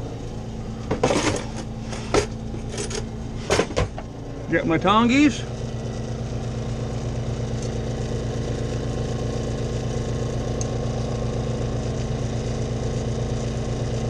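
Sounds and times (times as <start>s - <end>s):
generator humming: 0.0s - 14.0s.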